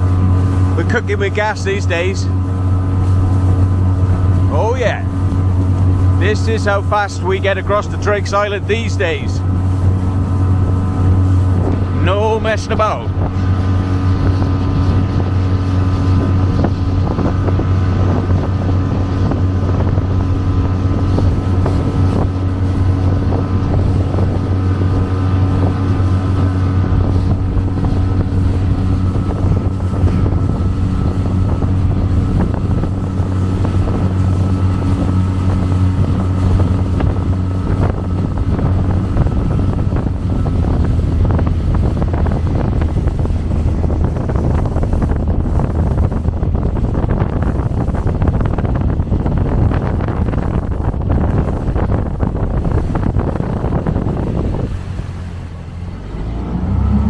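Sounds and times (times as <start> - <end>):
motorboat engine droning: 0.0 - 57.0
wind buffeting microphone: 0.0 - 57.0.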